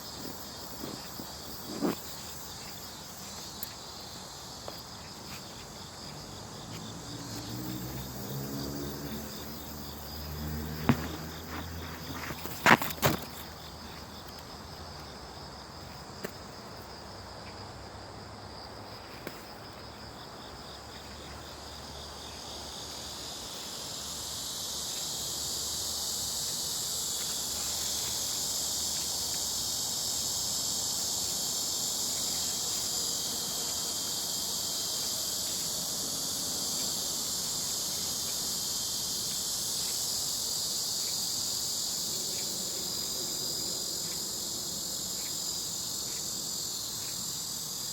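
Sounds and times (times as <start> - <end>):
insects buzzing shrilly: 0.0 - 17.6, 18.5 - 47.9.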